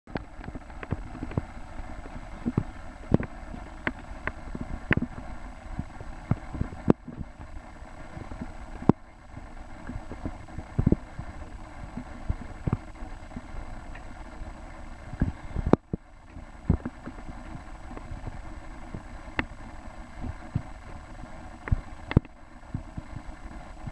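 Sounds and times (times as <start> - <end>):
low outdoor rumble: 0.1 - 23.9.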